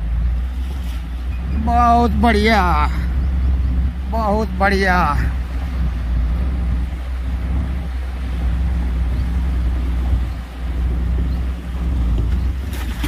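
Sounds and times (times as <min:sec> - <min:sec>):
vehicle engine droning: 0:00.0 - 0:13.0
water splashing: 0:00.0 - 0:13.0
water swishing around wheels: 0:00.0 - 0:13.0.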